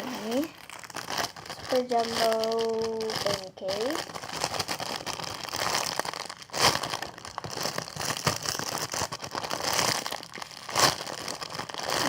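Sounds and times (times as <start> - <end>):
plastic crinkling: 0.0 - 12.0.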